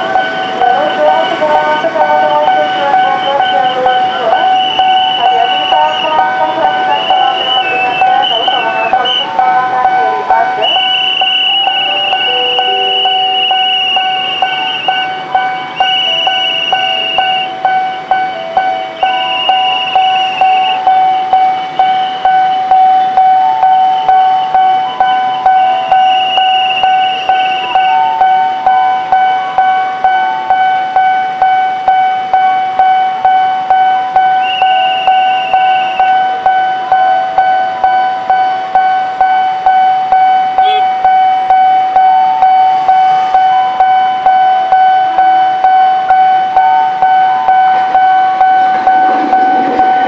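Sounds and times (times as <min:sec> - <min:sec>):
level crossing warning bell: 0:00.0 - 0:50.0.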